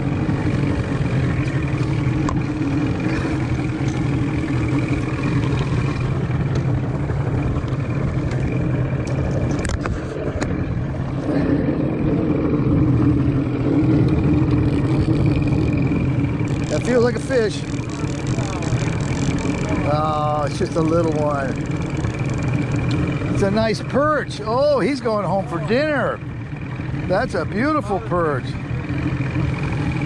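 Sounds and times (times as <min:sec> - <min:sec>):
boat motor running: 0:00.0 - 0:30.0.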